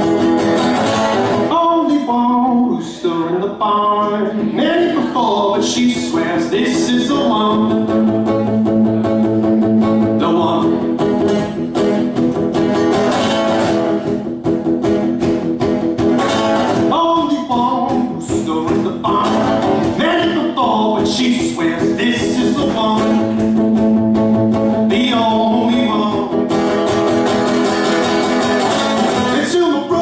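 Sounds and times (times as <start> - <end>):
song with strummed acoustic guitar: 0.0 - 30.0.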